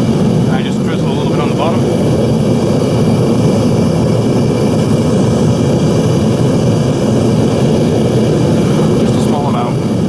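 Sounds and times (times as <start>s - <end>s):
blower: 0.0s - 10.0s
furnace burner roar: 0.0s - 10.0s.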